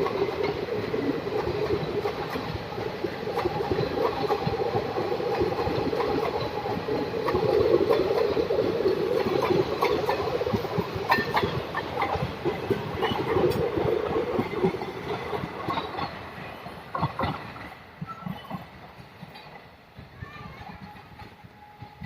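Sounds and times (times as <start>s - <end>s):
train coaches rumbling: 0.0s - 22.0s.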